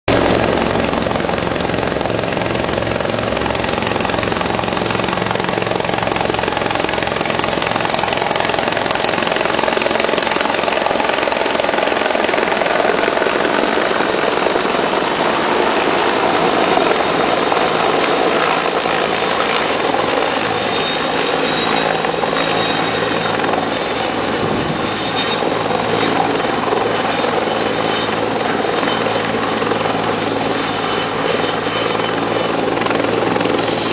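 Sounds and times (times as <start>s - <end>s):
helicopter rotor and turbine: 0.1s - 33.9s
high turbine whine: 0.1s - 33.9s.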